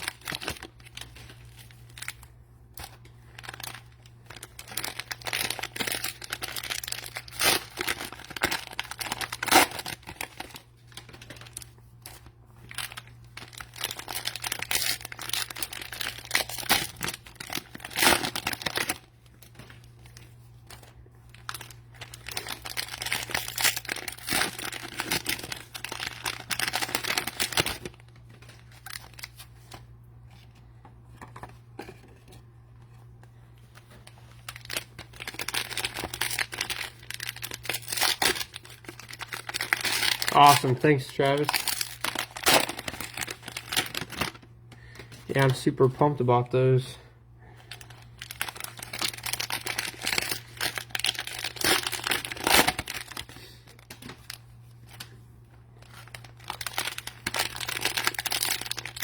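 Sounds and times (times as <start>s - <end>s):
low steady hum: 0.0s - 59.0s
plastic wrappers rustling: 0.0s - 59.0s.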